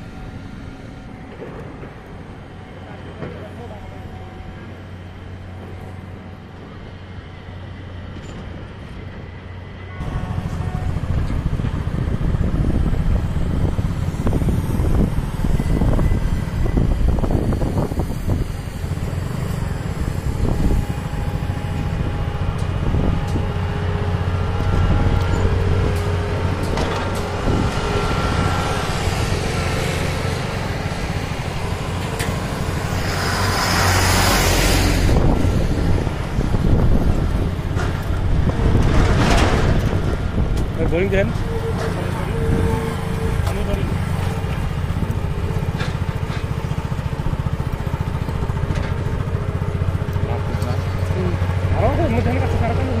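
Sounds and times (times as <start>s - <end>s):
vehicle engine and road rumble: 0.0s - 53.0s.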